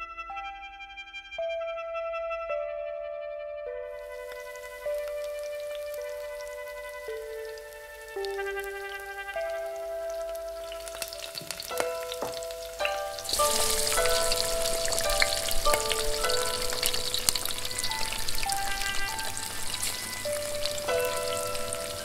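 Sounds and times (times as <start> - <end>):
light bell-like background music: 3.3 - 22.0
dumplings sizzling in oil: 4.0 - 22.0.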